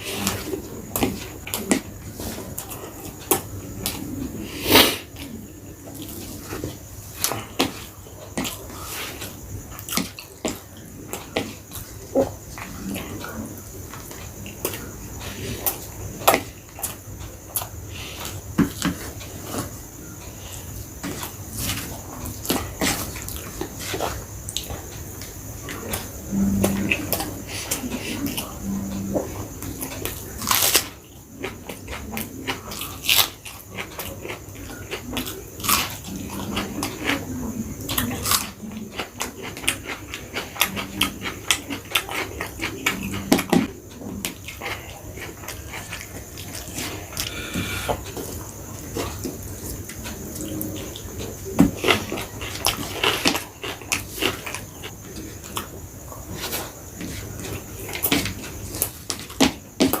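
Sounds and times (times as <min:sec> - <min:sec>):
chewing and smacking: 0:05.1 - 1:00.0.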